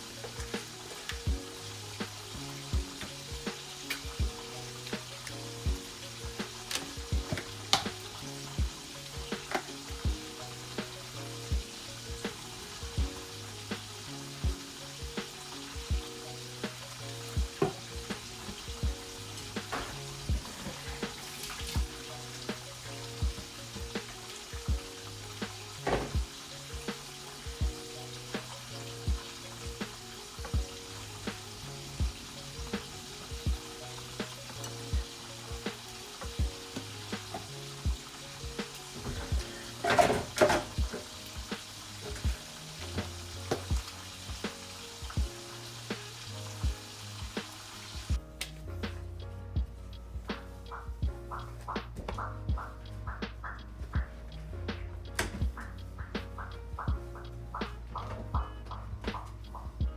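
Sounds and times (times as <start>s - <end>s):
chicken sizzling in hot oil: 0.0s - 48.2s
quiet background music: 0.0s - 59.9s.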